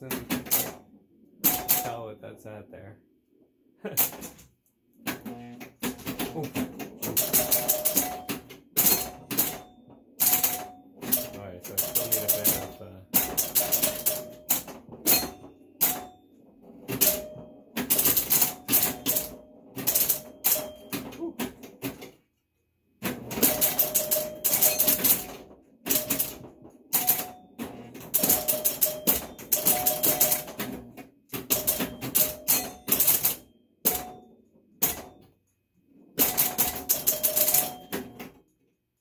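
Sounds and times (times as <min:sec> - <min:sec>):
pinball machine clattering clicks: 0:00.0 - 0:02.0, 0:05.0 - 0:22.2, 0:23.0 - 0:35.3, 0:36.2 - 0:38.5.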